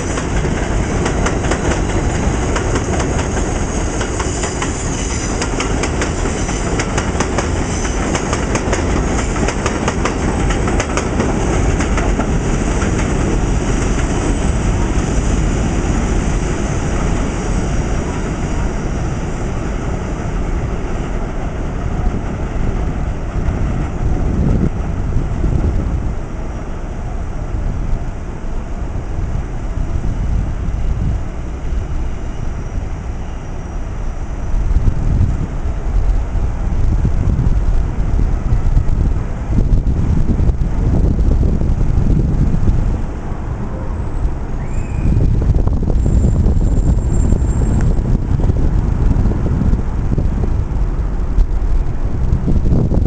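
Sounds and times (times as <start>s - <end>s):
wind buffeting microphone: 0.0s - 33.2s, 33.9s - 53.0s
distant train rumble: 0.0s - 53.0s.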